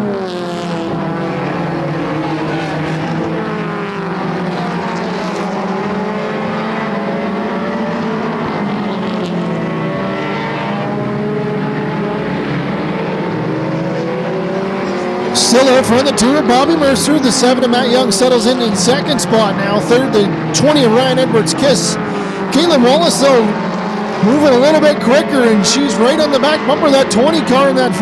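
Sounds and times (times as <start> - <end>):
race car engines: 0.0 - 28.0.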